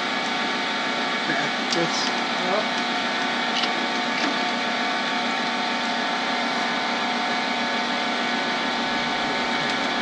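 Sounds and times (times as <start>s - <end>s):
lathe running: 0.0s - 10.0s.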